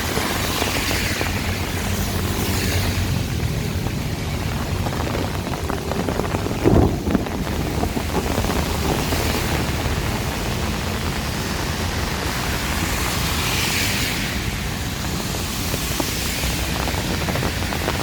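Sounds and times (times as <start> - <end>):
heavy rain in strong wind: 0.0 - 18.0.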